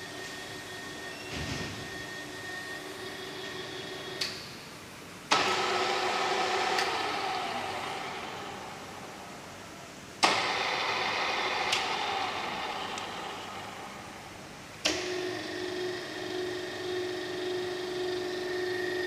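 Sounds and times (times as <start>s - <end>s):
motor steady hum: 0.0s - 19.0s.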